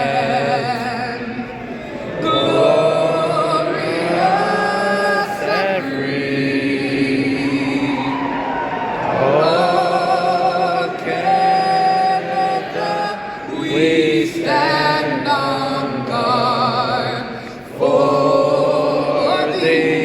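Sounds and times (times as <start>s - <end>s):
crowd singing along: 0.0s - 20.0s
soloist singing anthem with vibrato: 0.0s - 20.0s.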